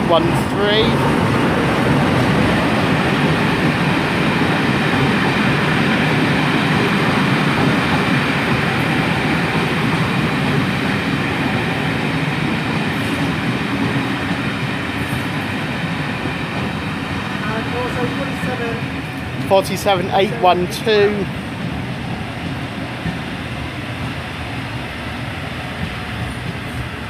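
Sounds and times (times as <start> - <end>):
diesel locomotive engine rumble: 0.0 - 27.0
train rail noise: 0.0 - 27.0.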